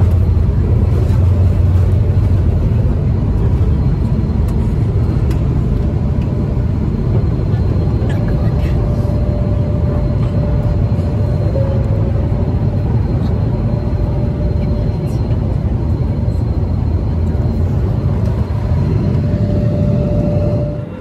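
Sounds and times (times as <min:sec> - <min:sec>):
airliner cabin rumble: 0:00.0 - 0:21.0
faint steady whine: 0:00.0 - 0:21.0.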